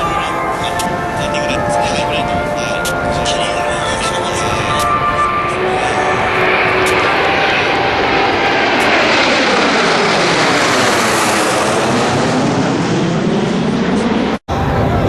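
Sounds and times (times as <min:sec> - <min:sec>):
jet aircraft passing by: 0:00.0 - 0:15.0.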